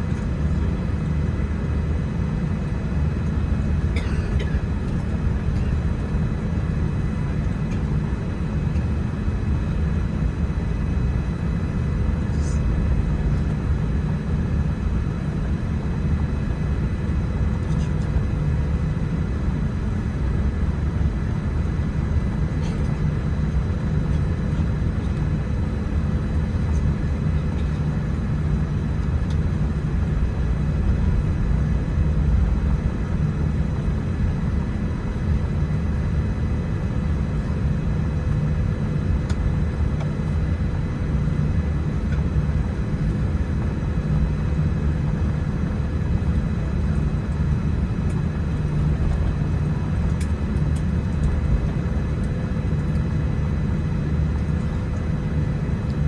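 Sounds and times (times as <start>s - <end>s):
aircraft cabin rumble: 0.0s - 56.0s
faint steady hums: 0.0s - 56.0s.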